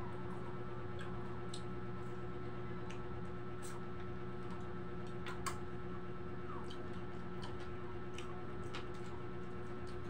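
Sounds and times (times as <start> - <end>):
electric fan humming: 0.0 - 10.0
crunching of people eating: 0.1 - 10.0.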